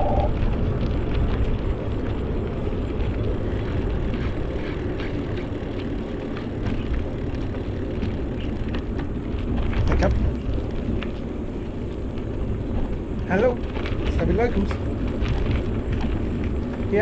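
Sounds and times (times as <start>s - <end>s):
bicycle road noise: 0.0s - 17.0s
faint ticks and rattles: 0.0s - 17.0s
wind buffeting microphone: 0.0s - 17.0s.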